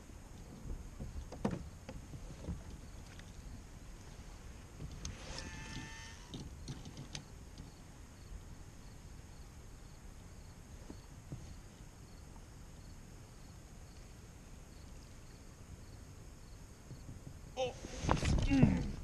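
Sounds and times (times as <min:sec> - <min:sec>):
low rumble of wind or water: 0:00.0 - 0:19.0.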